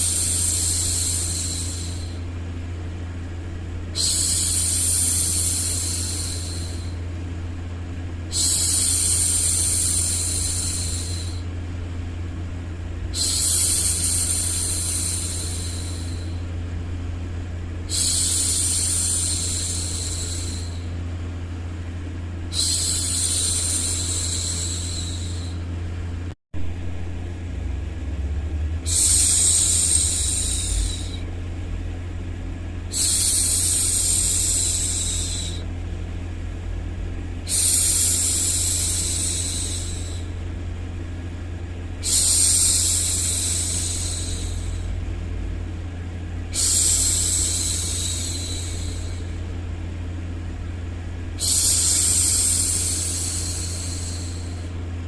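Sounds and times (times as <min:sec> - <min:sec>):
low rumbling white noise: 0:00.0 - 0:55.0.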